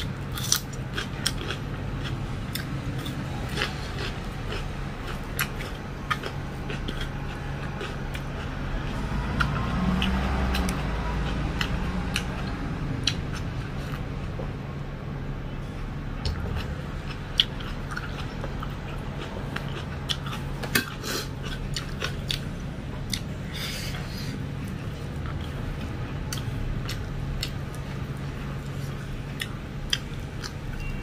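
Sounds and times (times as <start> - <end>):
person chewing: 0.0 - 14.2, 15.8 - 30.9
low background hum: 0.0 - 31.0.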